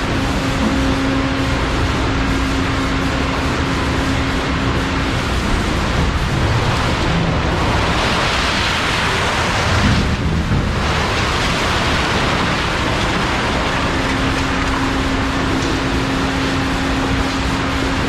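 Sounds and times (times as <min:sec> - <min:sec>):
scrap baler rumbling and rattling: 0:00.0 - 0:18.0.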